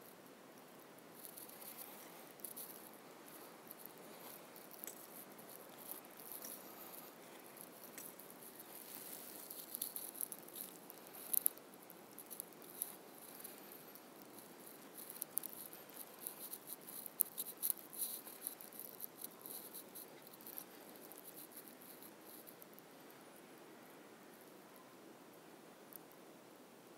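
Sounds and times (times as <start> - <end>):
steady low hiss: 0.0 - 26.9
crackling and ticking clicks: 1.2 - 22.8.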